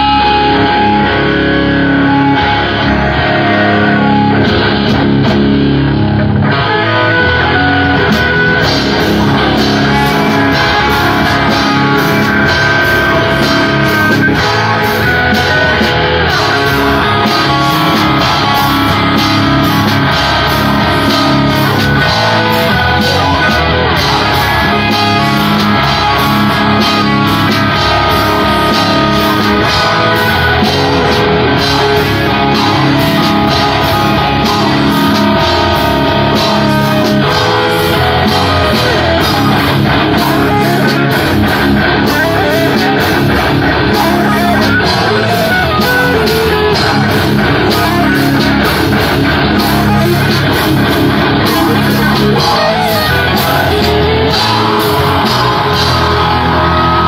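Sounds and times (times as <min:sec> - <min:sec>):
electric guitar: 0:00.0 - 0:57.0
heavy metal band playing: 0:00.0 - 0:57.0.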